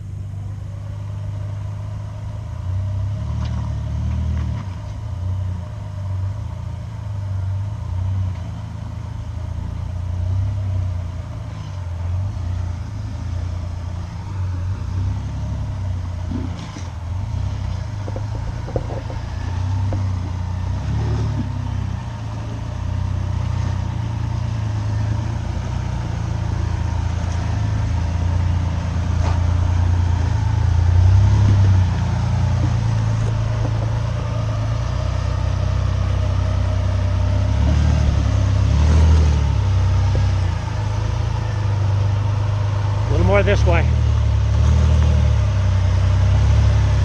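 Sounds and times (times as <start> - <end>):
engine rumbling at low speed: 0.0 - 47.0.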